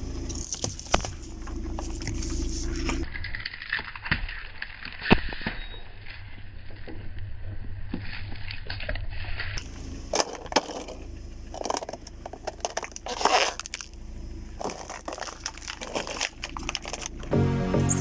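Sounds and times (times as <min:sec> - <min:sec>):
low steady rumble: 0:00.0 - 0:03.1, 0:06.4 - 0:18.0
objects crunching under car tyre: 0:00.0 - 0:17.3.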